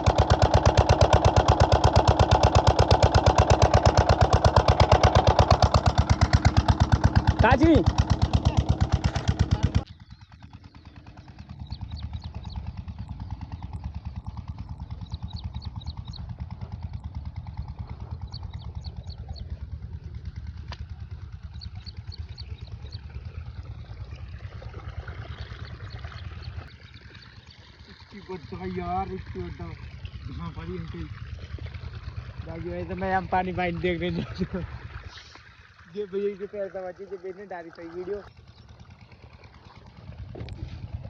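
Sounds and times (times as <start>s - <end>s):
diesel engine chugging: 0.0s - 41.0s.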